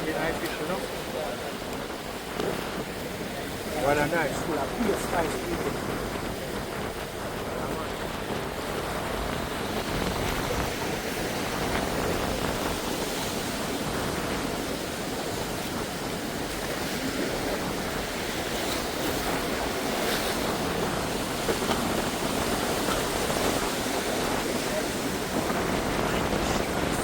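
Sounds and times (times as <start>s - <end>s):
sea waves: 0.0s - 27.0s
wind: 0.0s - 27.0s.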